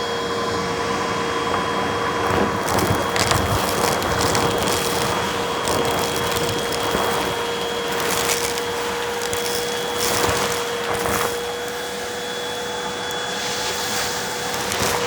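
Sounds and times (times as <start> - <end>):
vacuum cleaner running: 0.0 - 15.0
crackles of debris being sucked: 1.6 - 15.0.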